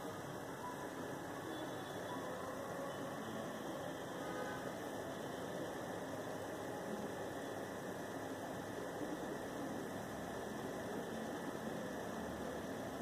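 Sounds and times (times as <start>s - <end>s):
low hiss with faint hum: 0.0s - 13.0s.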